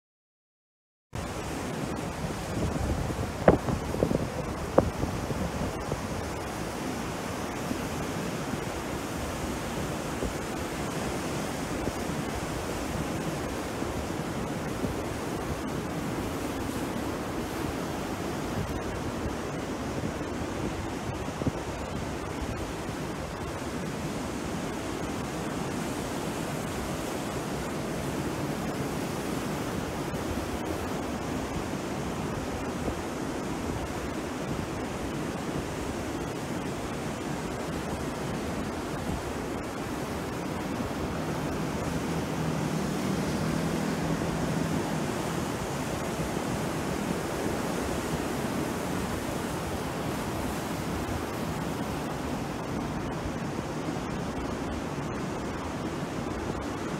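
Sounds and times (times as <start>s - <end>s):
surf breaking on shore: 1.2s - 56.9s.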